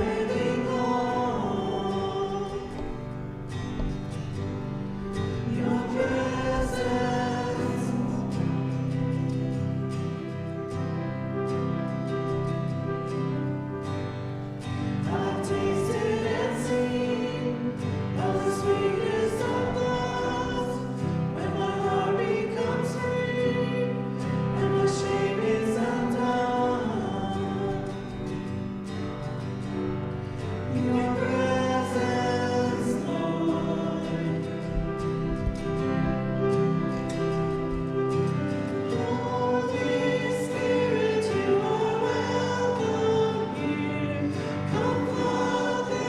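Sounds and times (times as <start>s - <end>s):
choir singing religious song: 0.0s - 13.6s, 14.5s - 46.0s.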